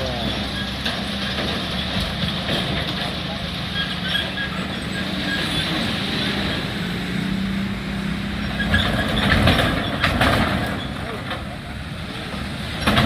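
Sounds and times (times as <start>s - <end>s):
wheels clacking over rails: 0.0s - 13.0s.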